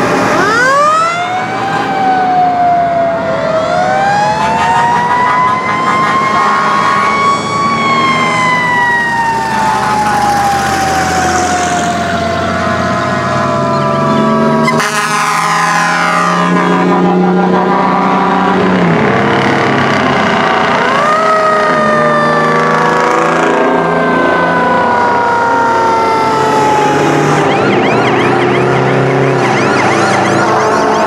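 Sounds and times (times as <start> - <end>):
fire engine sirens wailing: 0.0 - 31.0
truck engines running: 0.0 - 31.0.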